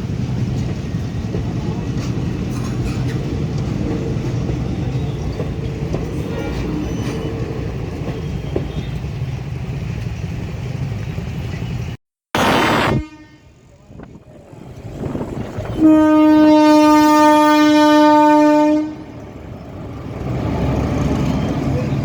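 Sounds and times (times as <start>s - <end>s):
train passing rumble: 0.0s - 22.0s.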